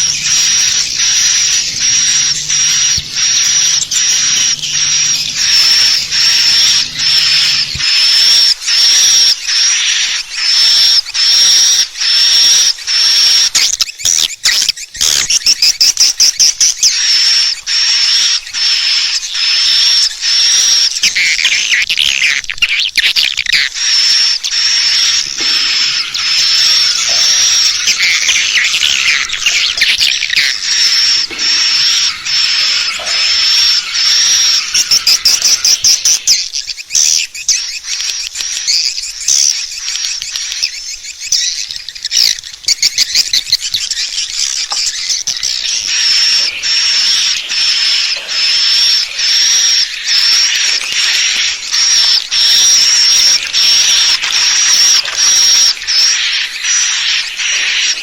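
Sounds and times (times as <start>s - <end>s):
high repeated bird chirps: 0.0s - 58.0s
lower bird twittering: 0.0s - 58.0s.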